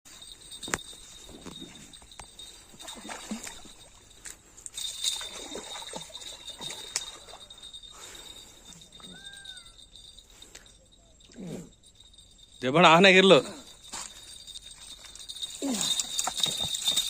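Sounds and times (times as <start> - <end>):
water splashing and trickling: 1.0 - 10.6, 13.0 - 17.0.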